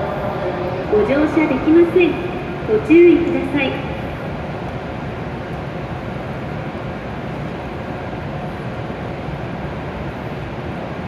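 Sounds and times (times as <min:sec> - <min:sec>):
stationary train humming: 0:00.0 - 0:11.0.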